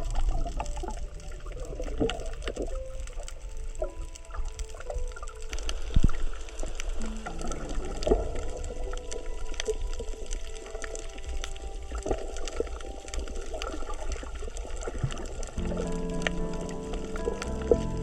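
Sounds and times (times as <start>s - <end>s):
low underwater rumble: 0.0s - 18.0s.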